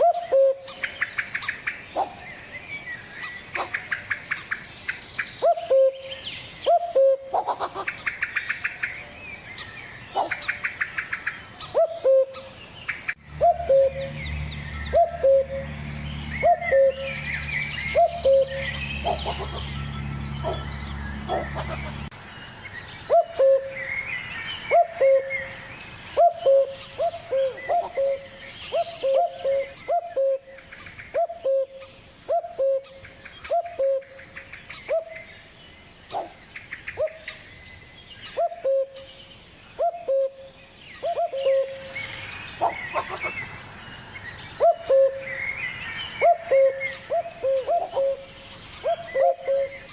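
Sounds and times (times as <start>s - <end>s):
bird chirping and twittering: 0.0s - 49.9s.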